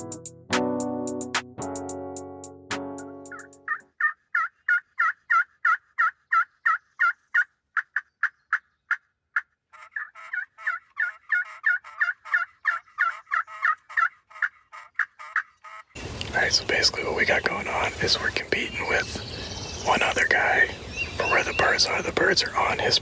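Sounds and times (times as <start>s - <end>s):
wild turkey yelping: 3.3s - 23.0s.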